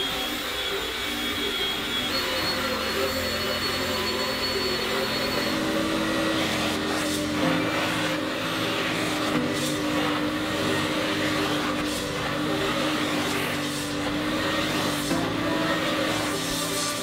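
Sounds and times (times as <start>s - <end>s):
carpet extractor vacuum running: 0.0s - 17.0s.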